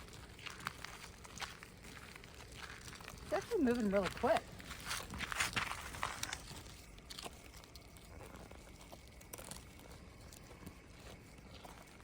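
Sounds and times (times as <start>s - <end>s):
crunching footsteps: 0.0s - 12.0s
small clicks and crackles: 0.0s - 12.0s.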